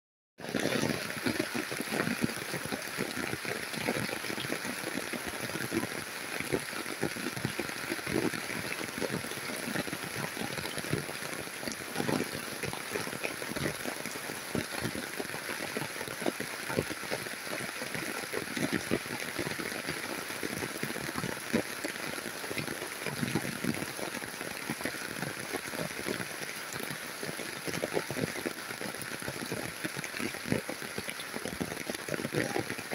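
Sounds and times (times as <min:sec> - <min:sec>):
heavy rain on plants: 0:00.4 - 0:32.9.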